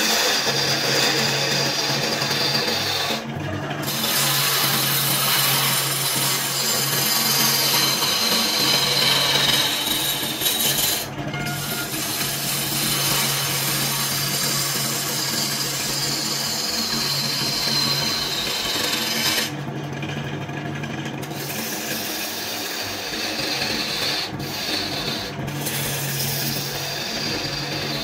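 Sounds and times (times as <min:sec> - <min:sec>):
tool scraping spinning wood: 0:00.0 - 0:28.0
wood lathe humming: 0:00.0 - 0:28.0.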